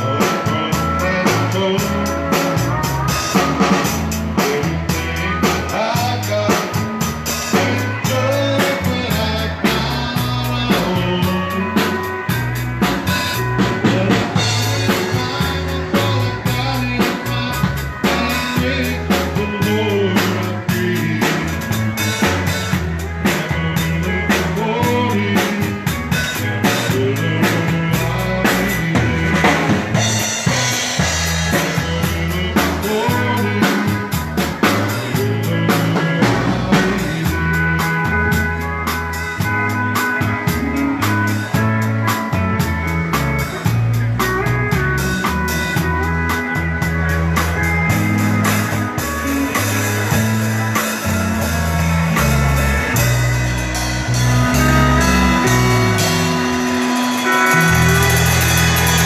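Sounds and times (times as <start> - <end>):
drum kit beat: 0.0 - 59.0
live dance band: 0.0 - 59.0
stepping bass line: 0.0 - 59.0.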